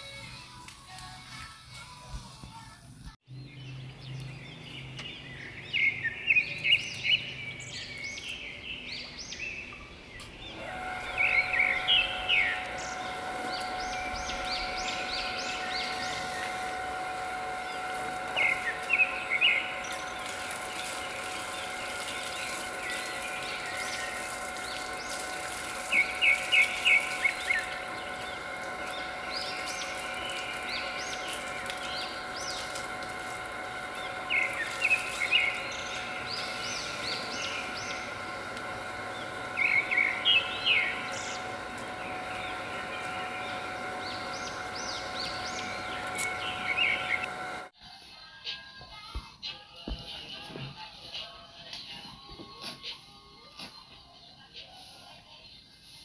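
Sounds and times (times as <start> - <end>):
steady multi-toned hum: 0.0 - 54.8
small birds chirping: 3.3 - 48.6.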